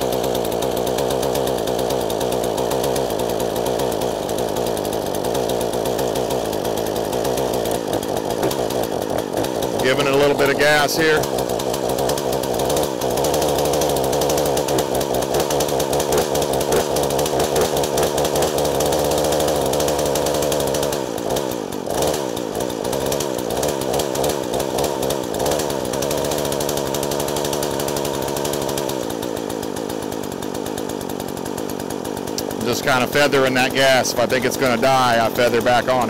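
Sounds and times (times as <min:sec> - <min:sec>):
chainsaw engine running: 0:00.0 - 0:36.0.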